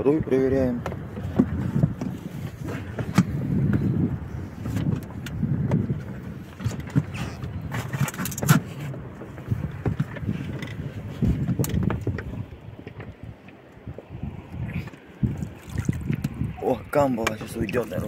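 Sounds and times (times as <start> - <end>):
low rumble of gear handling: 0.9 - 18.0.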